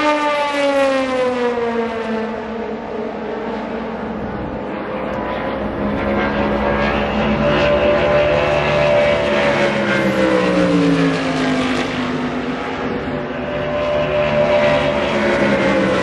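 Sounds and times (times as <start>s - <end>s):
race car engine passing by: 0.1s - 16.0s.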